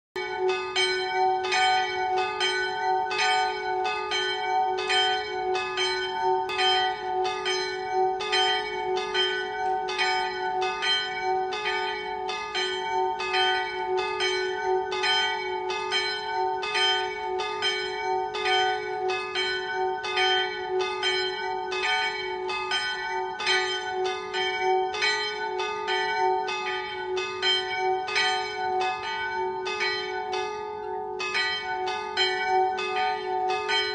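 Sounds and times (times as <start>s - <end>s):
church bells pealing: 0.2s - 33.9s.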